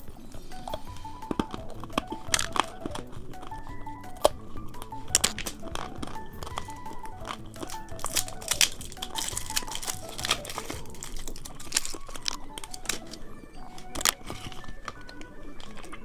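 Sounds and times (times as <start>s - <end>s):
candy packaging crinkling and tearing: 0.0s - 16.0s
crisp crunching clicks: 0.0s - 16.0s
light tinkly background music: 0.0s - 16.0s.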